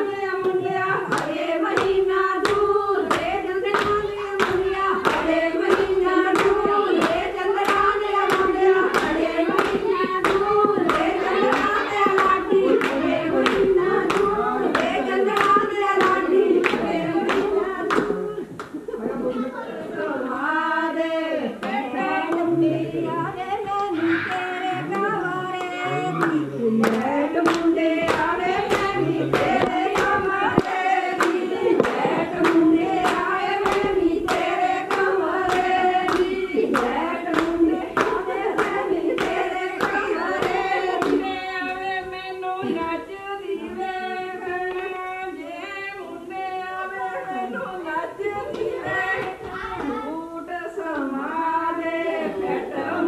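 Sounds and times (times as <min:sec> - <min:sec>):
women singing folk song: 0:00.0 - 0:19.0, 0:19.8 - 0:53.0
rhythmic hand clapping: 0:00.0 - 0:19.1, 0:20.6 - 0:53.0.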